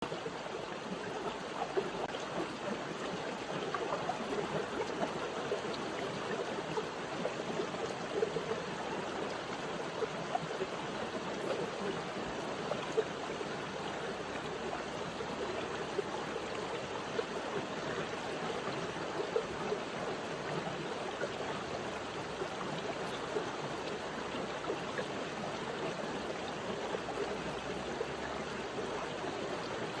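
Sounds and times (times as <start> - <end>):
river water running over stones: 0.1 - 30.0.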